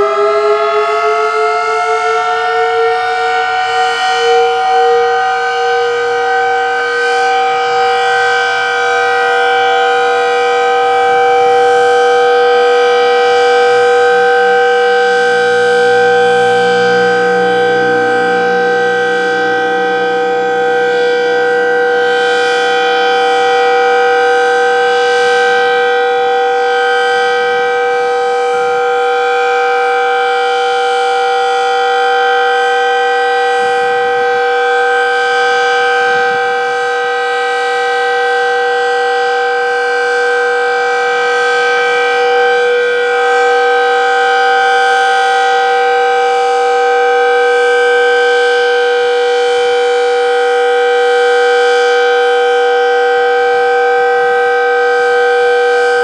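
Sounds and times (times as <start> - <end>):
mechanical warning siren: 0.0 - 56.0.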